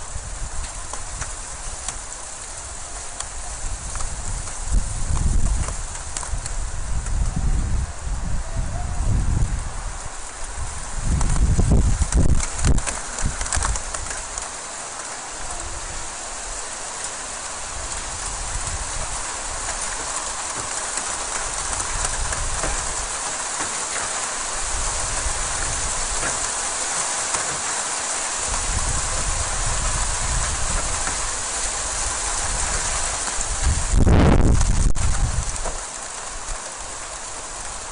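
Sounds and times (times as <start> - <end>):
hail pelting pavement and metal: 0.0 - 8.4, 9.0 - 37.9.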